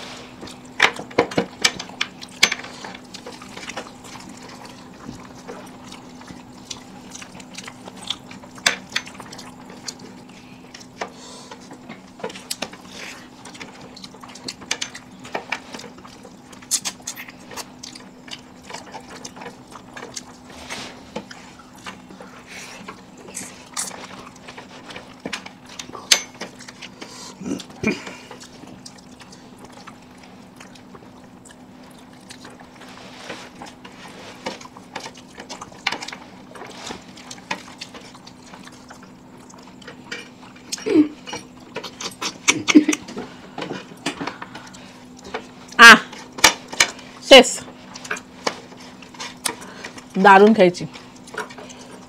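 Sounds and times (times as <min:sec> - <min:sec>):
steady low hum: 0:00.0 - 0:52.0
wet chewing and lip-smacking: 0:00.3 - 0:50.2, 0:50.9 - 0:52.0.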